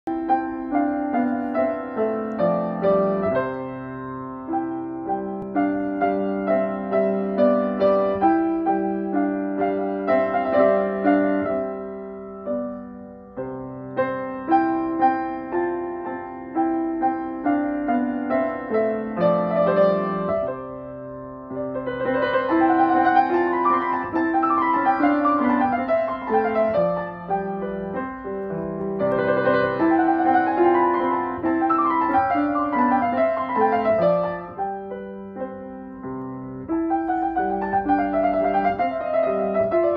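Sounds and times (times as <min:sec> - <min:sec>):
grand piano playing: 0:00.0 - 0:39.9.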